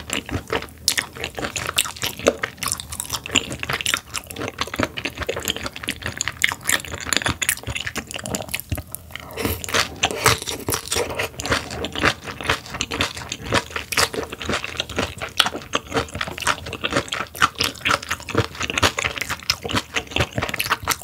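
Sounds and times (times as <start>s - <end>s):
crunchy chewing: 0.0s - 21.0s.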